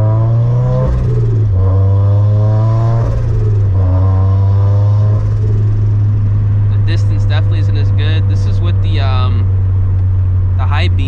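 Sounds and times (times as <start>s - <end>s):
car engine accelerating through gears: 0.0s - 10.6s.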